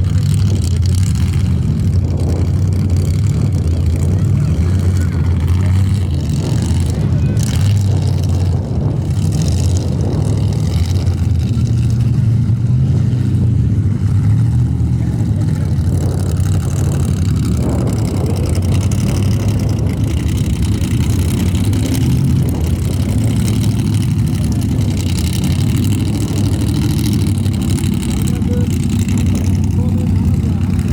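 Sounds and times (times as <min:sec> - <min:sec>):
buggy engine running hard: 0:00.0 - 0:30.9.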